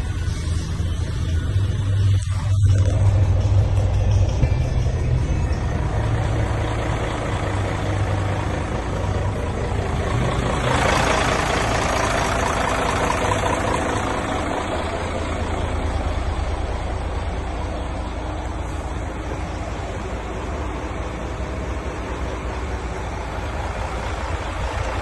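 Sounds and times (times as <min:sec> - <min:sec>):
truck diesel engine idling: 0:00.0 - 0:25.0.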